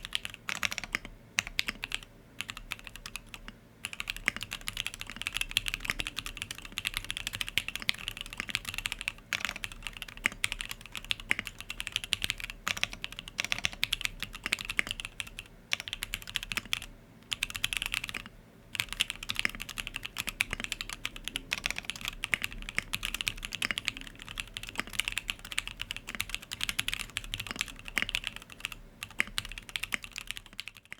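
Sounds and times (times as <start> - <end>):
mechanical keyboard typing: 0.0 - 30.9.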